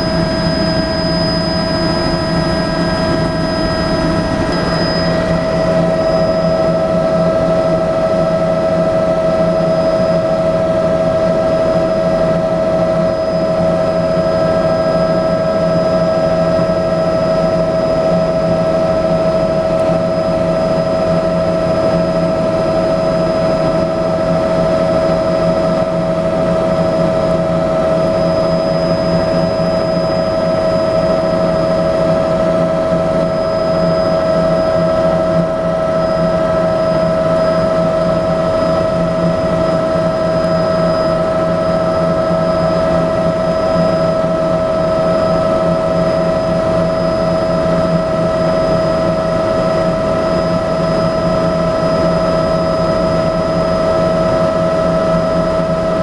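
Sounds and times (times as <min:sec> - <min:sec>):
constant pitched whine: 0:00.0 - 0:56.0
helicopter engine and rotors drone: 0:00.0 - 0:56.0.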